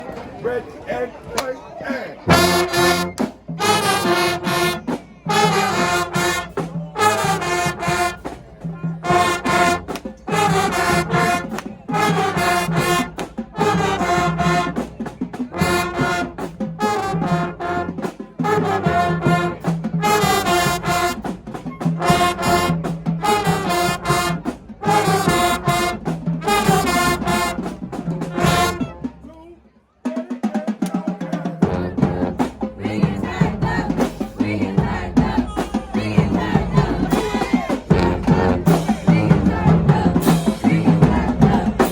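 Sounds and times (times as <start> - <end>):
marching band brass playing: 0.0 - 41.9.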